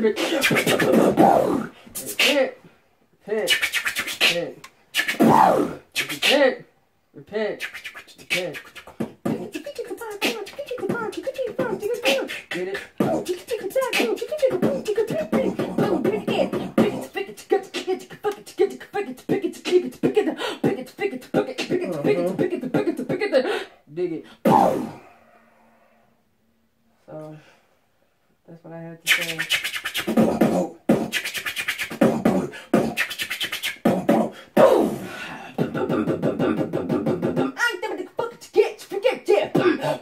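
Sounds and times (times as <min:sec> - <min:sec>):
woman beatboxing: 0:00.0 - 0:02.6, 0:03.3 - 0:06.6, 0:07.4 - 0:23.5, 0:24.5 - 0:25.0, 0:29.0 - 0:40.0
man beatboxing: 0:00.0 - 0:02.7, 0:03.3 - 0:06.6, 0:07.3 - 0:23.4, 0:24.4 - 0:25.0, 0:29.0 - 0:40.0.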